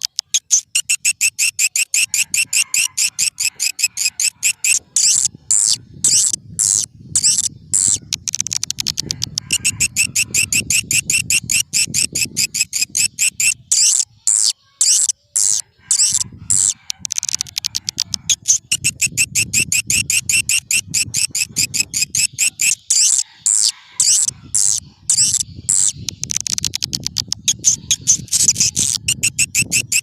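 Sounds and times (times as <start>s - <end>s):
swiftlet twittering chirps: 0.0s - 30.0s.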